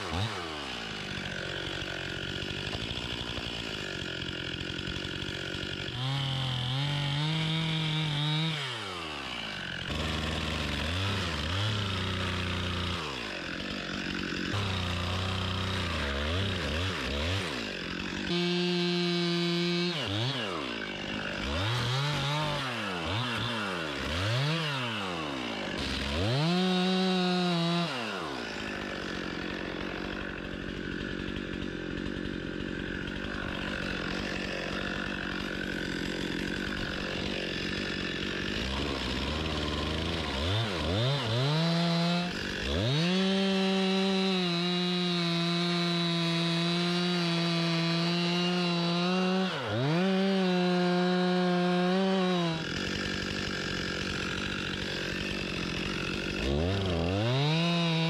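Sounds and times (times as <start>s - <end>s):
chainsaw cutting tree: 0.0s - 58.0s.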